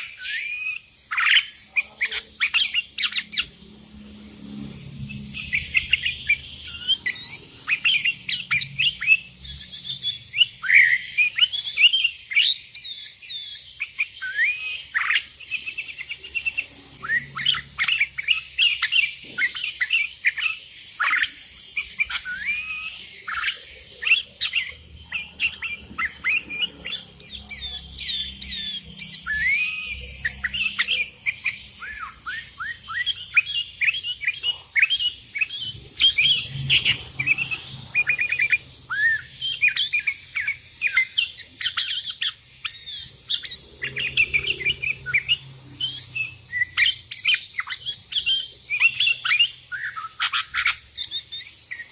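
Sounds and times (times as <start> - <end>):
bird chirping and whistling: 0.0 - 51.9.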